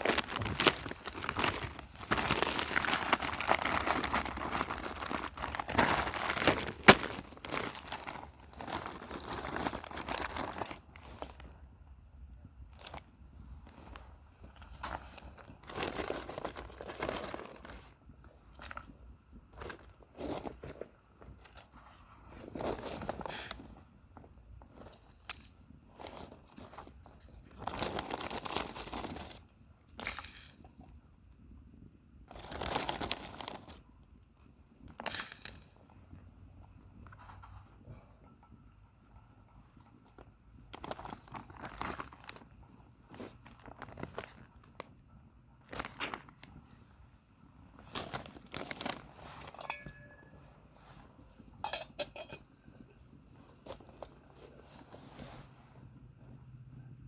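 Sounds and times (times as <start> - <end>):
crunching and crinkling: 0.0 - 31.5, 32.3 - 34.0, 34.7 - 38.0, 39.6 - 45.0, 45.6 - 56.4.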